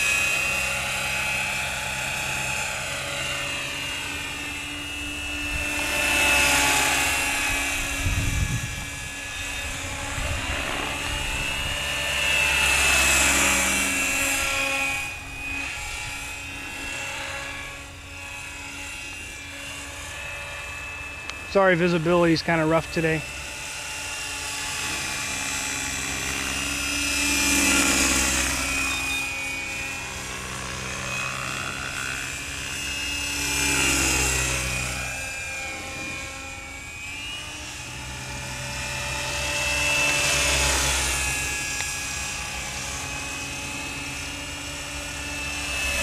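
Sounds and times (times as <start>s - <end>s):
rc helicopter motor and rotor whine: 0.0s - 46.0s.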